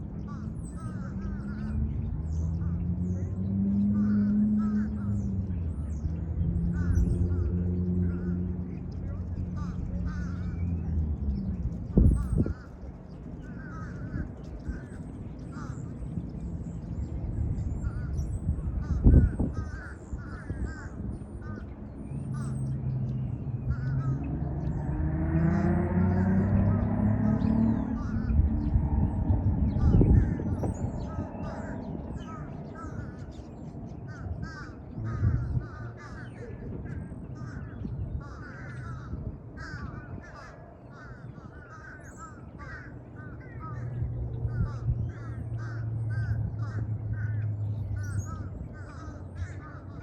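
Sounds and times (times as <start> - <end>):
steady low rumble: 0.0 - 50.0
crows cawing: 0.2 - 1.8, 3.9 - 5.3, 6.6 - 10.8, 12.0 - 16.3, 17.8 - 23.0, 23.6 - 24.5, 25.4 - 50.0.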